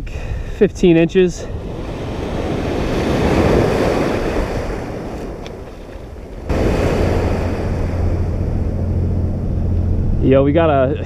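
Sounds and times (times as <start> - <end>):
wind rumble on microphone: 0.4 - 11.0
ocean waves breaking: 1.3 - 11.0.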